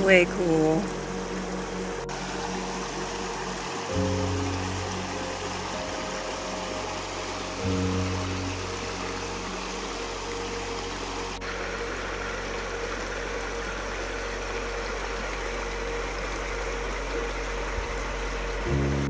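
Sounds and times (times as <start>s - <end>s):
constant low hum: 0.0s - 19.0s
river water rushing over stones: 0.0s - 19.0s.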